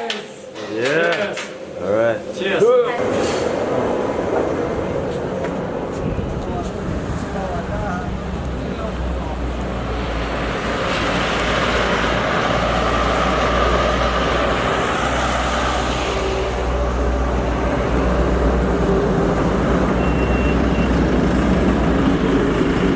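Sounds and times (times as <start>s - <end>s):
constant road hiss: 1.4s - 22.9s
engine and tyre rumble: 3.0s - 22.9s.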